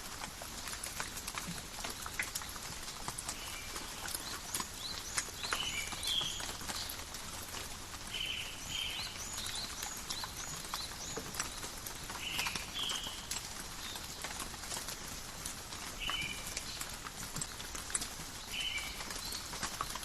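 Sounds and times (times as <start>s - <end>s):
rain dripping in forest: 0.0s - 20.0s.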